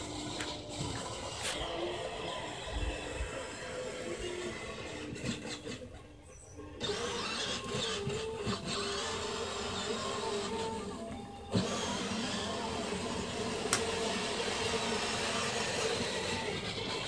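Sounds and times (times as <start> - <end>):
toy car electric motor whining: 0.0 - 17.0.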